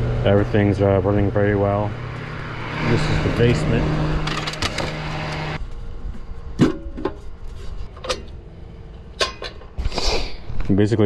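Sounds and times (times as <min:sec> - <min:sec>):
air conditioner humming: 0:00.0 - 0:09.8.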